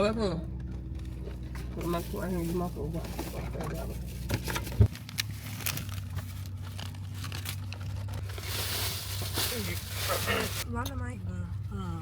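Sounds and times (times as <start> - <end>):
rustling and crinkling: 0.6 - 10.7.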